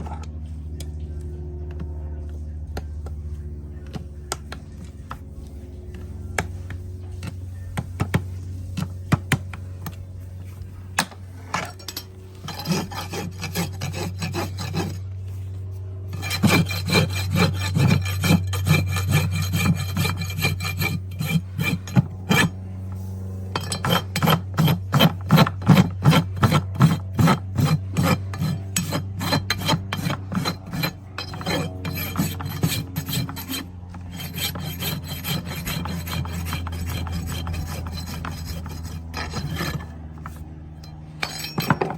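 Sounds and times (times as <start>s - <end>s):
steady low hum: 0.0s - 41.9s
rasp filing a hoof: 2.8s - 41.9s.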